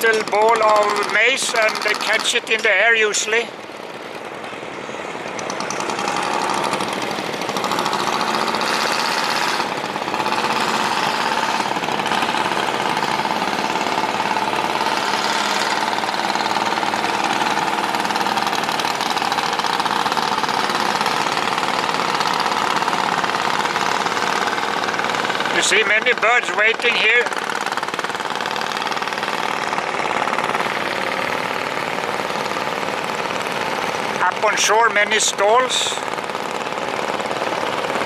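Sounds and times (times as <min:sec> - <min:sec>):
boat engine running: 0:00.0 - 0:38.0.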